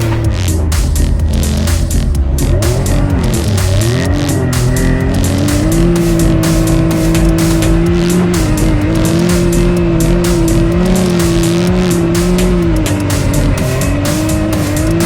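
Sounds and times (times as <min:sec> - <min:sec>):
engine running at high revs: 0:00.0 - 0:15.0
music playing: 0:00.0 - 0:15.0.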